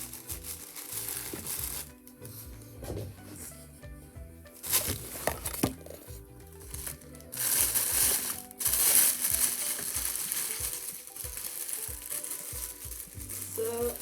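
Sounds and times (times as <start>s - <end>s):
packaging wrap crinkling: 0.0s - 2.3s, 4.5s - 14.0s
background music: 0.0s - 14.0s.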